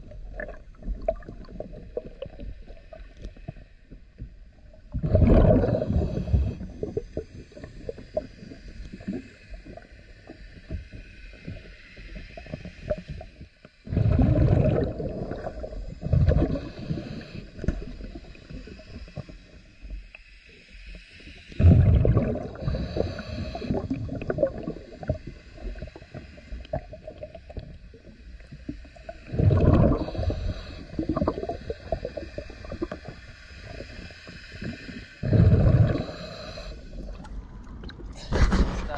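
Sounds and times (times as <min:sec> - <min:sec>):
gurgling exhaled bubbles: 0:00.0 - 0:03.2, 0:04.8 - 0:10.0, 0:12.2 - 0:19.5, 0:21.5 - 0:38.9
quiet bubbling and crackle: 0:00.0 - 0:38.9.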